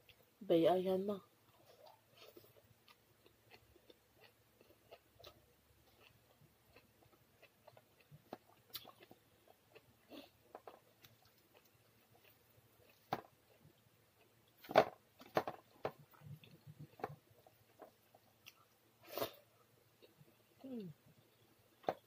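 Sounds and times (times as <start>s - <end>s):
person chewing: 1.4s - 22.0s.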